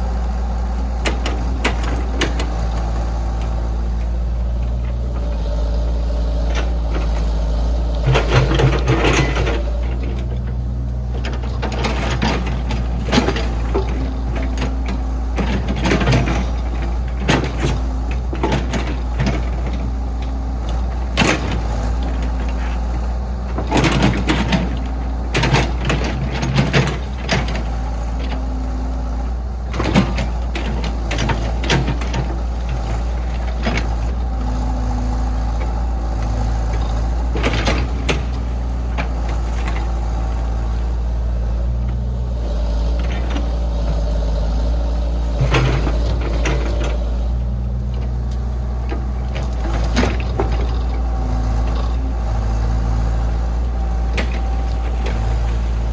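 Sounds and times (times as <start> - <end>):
diesel farm machinery engine: 0.0 - 55.9.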